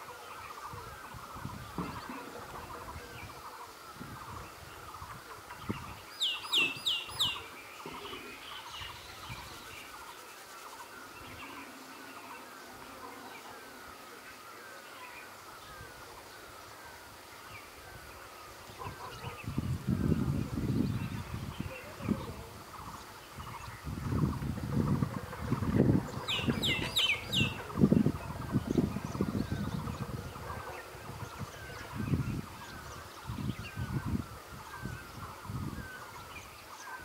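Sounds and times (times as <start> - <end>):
birds twittering: 0.0 - 37.0.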